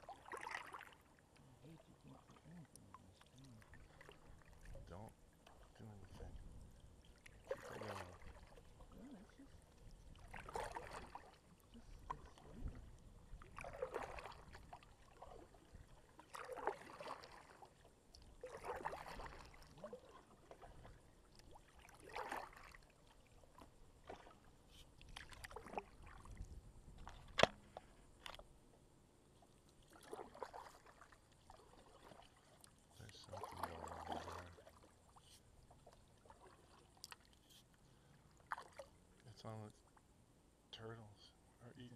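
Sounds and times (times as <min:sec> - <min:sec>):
paddle strokes splashing in water: 0:00.0 - 0:28.5, 0:29.3 - 0:40.0.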